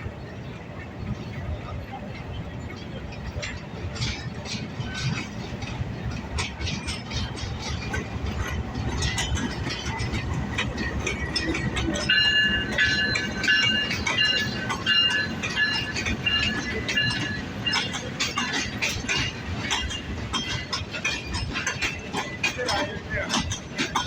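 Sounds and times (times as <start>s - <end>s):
train rumbling: 0.0s - 24.0s
wheels clattering over rail joints: 0.0s - 24.0s.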